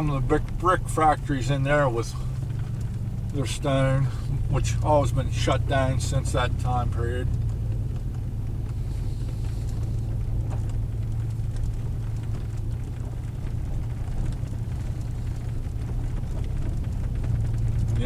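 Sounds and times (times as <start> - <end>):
light knocks and rattles: 0.0 - 18.0
vehicle engine and road drone: 0.0 - 18.0.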